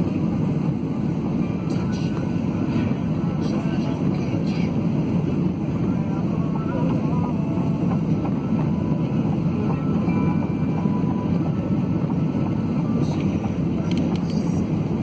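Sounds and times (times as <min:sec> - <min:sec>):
jet cabin engine rumble: 0:00.0 - 0:15.0.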